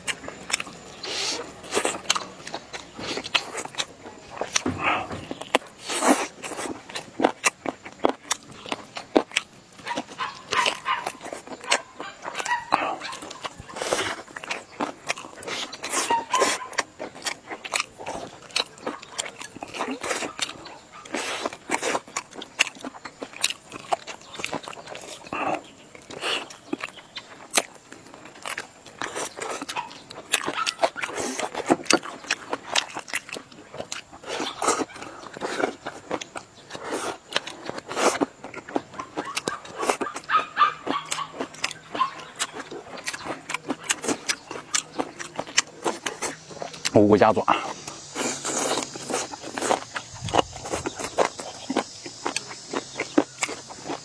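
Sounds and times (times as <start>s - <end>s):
chewing and lip-smacking: 0.0s - 54.0s
crunchy clicks: 0.0s - 54.0s.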